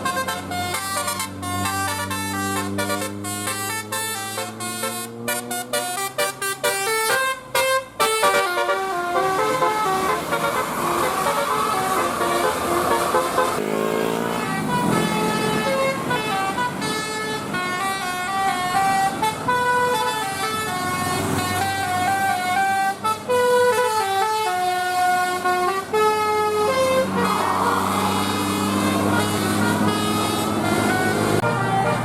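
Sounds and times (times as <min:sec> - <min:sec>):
bus melody horn tune: 0:00.0 - 0:32.0.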